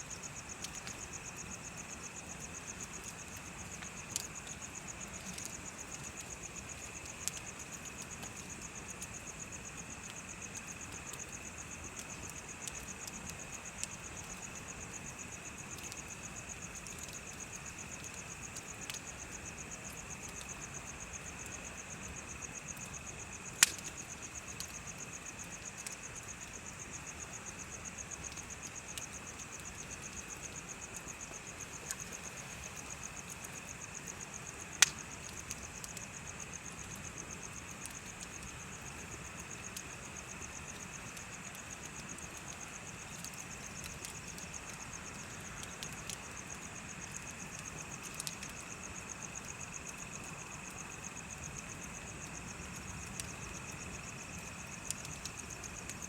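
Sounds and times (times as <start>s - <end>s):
insects chirping: 0.0s - 56.0s
bonfire crackling and popping: 0.1s - 56.0s.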